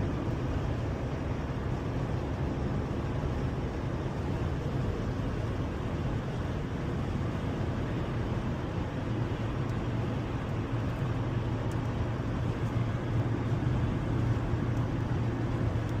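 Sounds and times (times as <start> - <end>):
car engine hum: 0.0 - 16.0
road noise: 0.0 - 16.0.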